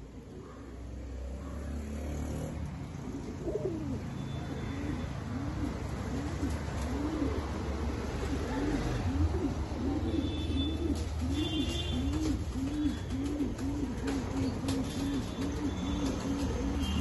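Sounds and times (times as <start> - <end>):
pigeon cooing: 3.0 - 16.9.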